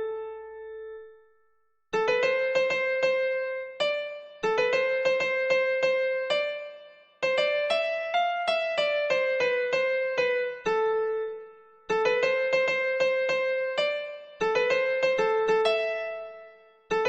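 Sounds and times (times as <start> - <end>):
electric piano melody: 0.0 - 1.2, 2.0 - 17.0.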